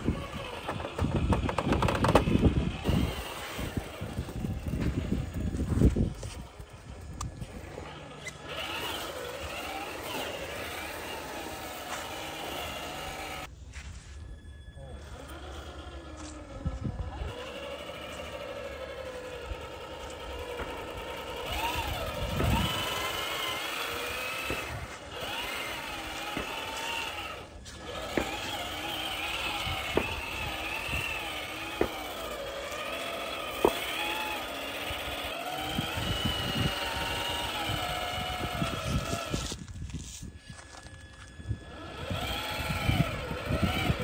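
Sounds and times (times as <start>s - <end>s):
electric motor whining: 0.0s - 13.5s, 14.8s - 44.0s.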